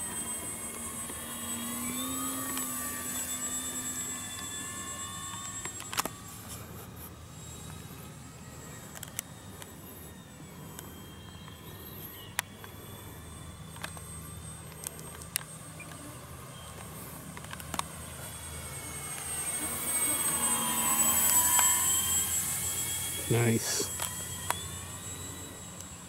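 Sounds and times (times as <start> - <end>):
model plane motors whining: 0.0 - 26.0.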